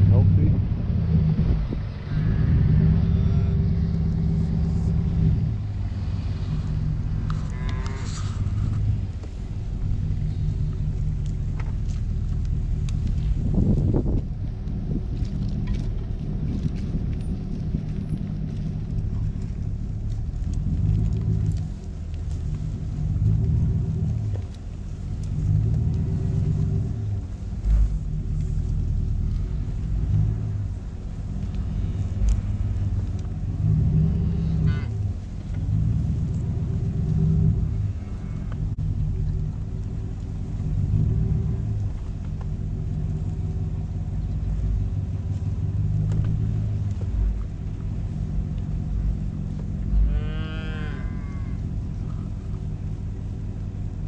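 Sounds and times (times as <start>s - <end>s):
truck engine humming: 0.0s - 54.0s.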